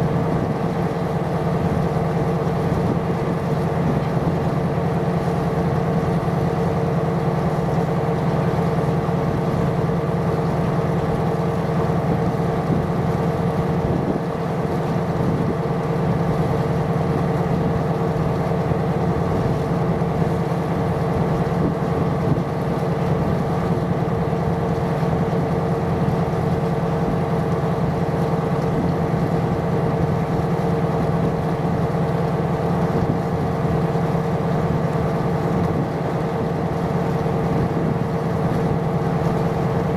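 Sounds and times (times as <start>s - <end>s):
ship diesel engine droning: 0.0s - 39.9s.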